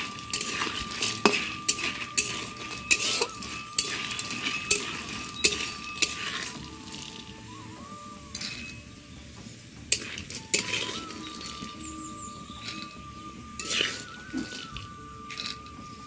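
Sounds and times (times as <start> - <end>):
spatula clinking against pan: 0.0 - 7.2, 9.9 - 15.8
metal spatula scraping a pan: 0.0 - 7.3, 8.3 - 8.9, 9.9 - 15.8
oil sizzling: 0.0 - 16.0.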